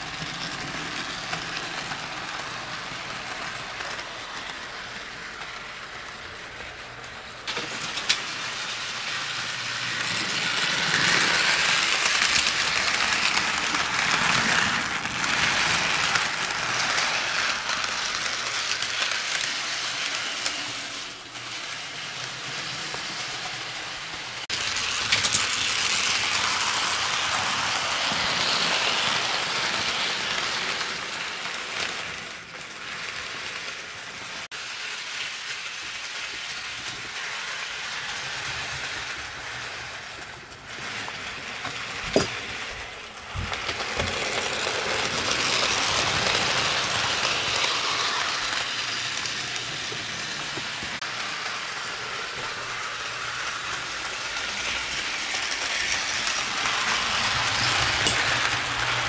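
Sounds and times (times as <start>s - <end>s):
model train wheels rattling on rail: 0.0s - 59.0s.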